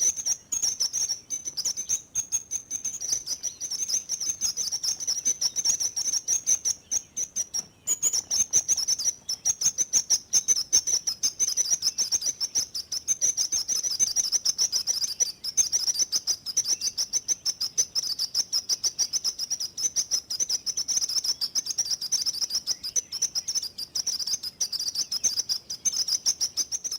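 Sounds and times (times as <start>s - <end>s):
sparrow chirping: 0.0s - 26.9s.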